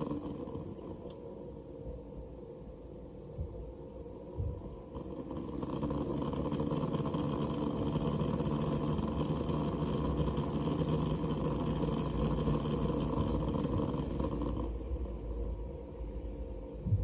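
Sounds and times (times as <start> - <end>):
pump rattling buzz: 0.0 - 2.1, 3.2 - 15.8, 16.5 - 17.0.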